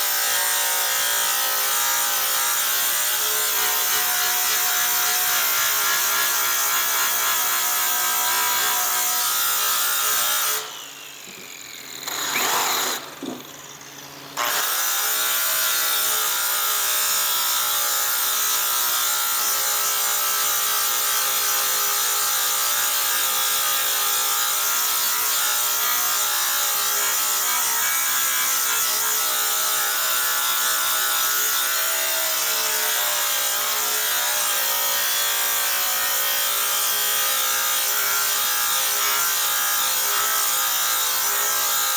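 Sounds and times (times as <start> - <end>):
electric polisher on metal: 0.0 - 41.9.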